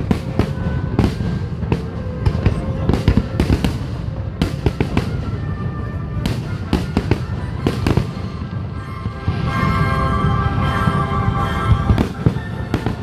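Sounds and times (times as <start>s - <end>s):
fireworks bursting and booming: 0.0s - 13.0s
music playing: 0.0s - 13.0s.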